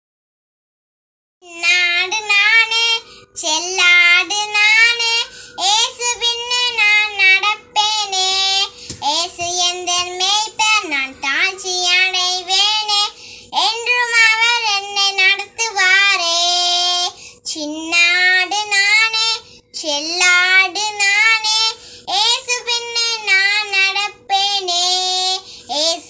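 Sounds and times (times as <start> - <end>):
girl singing gospel song: 1.4 - 26.0.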